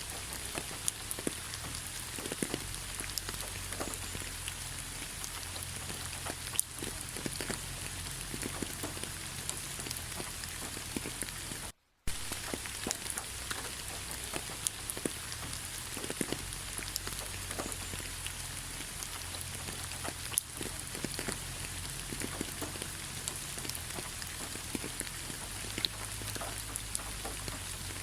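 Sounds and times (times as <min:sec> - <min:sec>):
rain drops tapping: 0:00.0 - 0:28.0.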